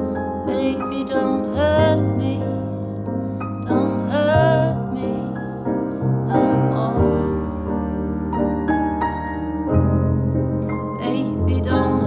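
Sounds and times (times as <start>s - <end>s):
grand piano playing chords: 0.0s - 12.0s.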